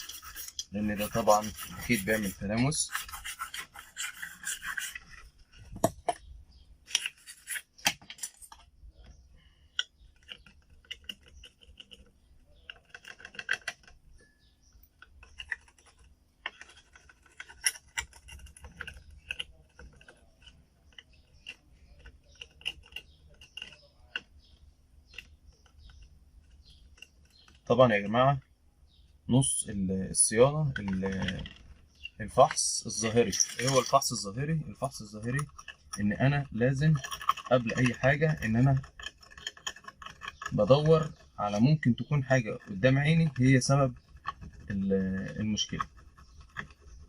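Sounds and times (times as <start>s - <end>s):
hand tool scraping and clicking: 0.0s - 6.3s, 6.9s - 8.6s, 9.8s - 27.6s, 30.4s - 47.0s.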